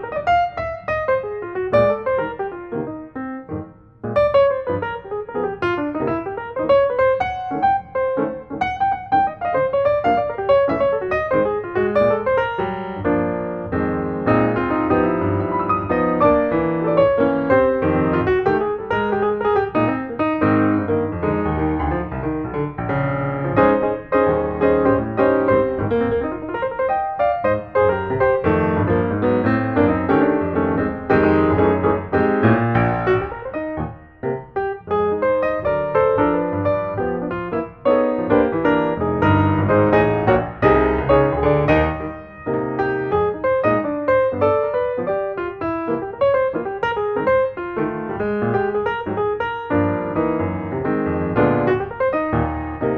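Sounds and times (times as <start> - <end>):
piano music: 0.0 - 52.9.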